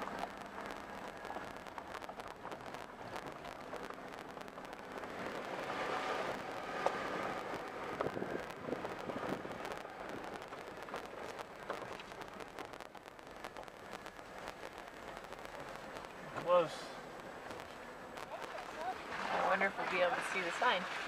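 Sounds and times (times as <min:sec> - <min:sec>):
tyres rumbling on rock and gravel: 0:00.0 - 0:21.0.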